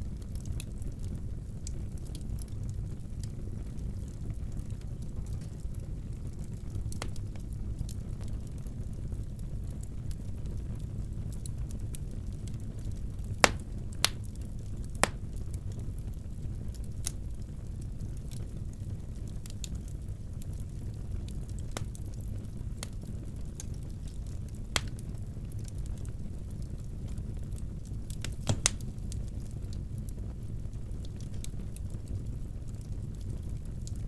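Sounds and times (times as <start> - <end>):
wood fire crackling and popping: 0.1 - 34.0.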